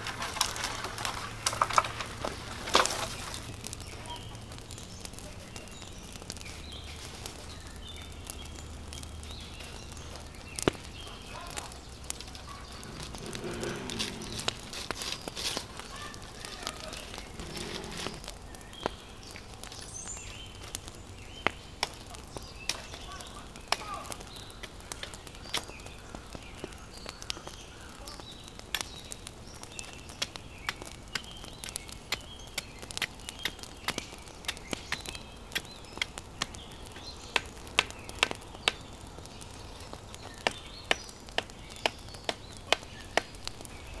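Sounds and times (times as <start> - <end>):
birds chirping faintly: 0.0 - 44.0
firewood being chopped: 0.0 - 44.0.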